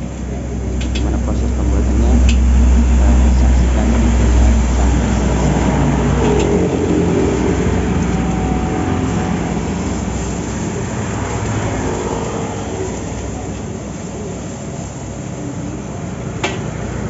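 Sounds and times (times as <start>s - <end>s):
gas burner: 0.0s - 17.0s
heavy low rumble: 0.0s - 17.0s
road traffic roar: 0.0s - 17.0s.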